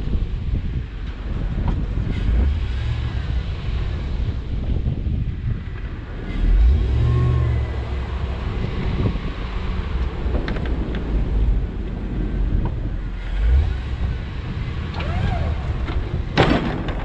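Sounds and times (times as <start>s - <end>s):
truck engine revving: 1.8s - 17.0s.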